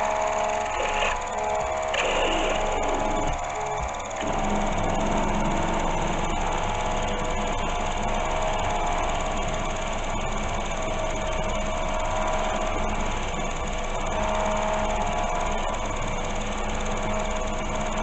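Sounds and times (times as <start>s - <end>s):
milling machine whining: 0.0s - 18.0s.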